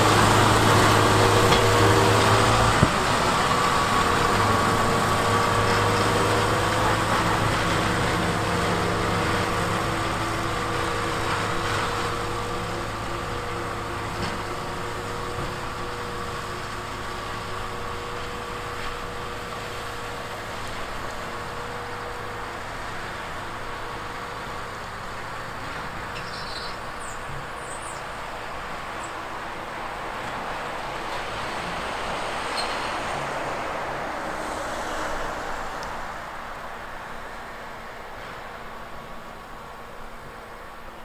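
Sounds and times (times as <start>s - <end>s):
diesel engine running: 0.0s - 36.1s.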